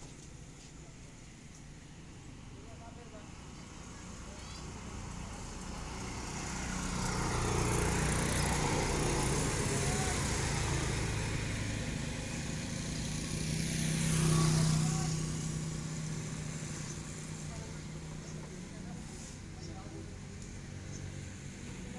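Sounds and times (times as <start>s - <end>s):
vehicles passing on road: 0.0s - 21.9s.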